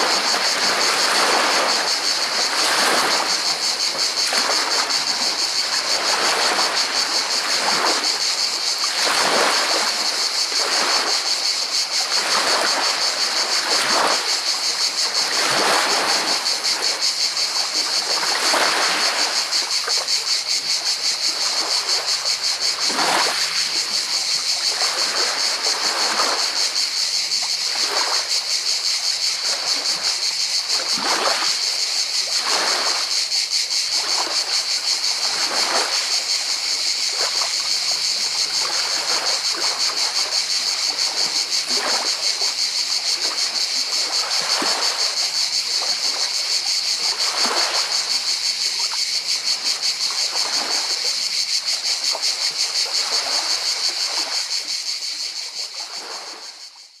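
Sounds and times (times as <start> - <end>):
waves lapping on pebble beach: 0.0 - 55.2, 55.8 - 56.5
cicadas chorus: 0.0 - 57.0.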